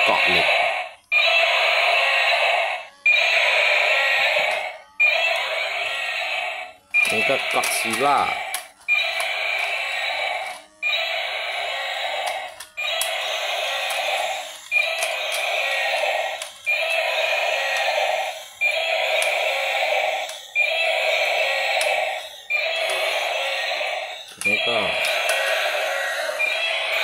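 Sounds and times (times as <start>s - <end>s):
toy electronic sound effect: 0.0s - 27.0s.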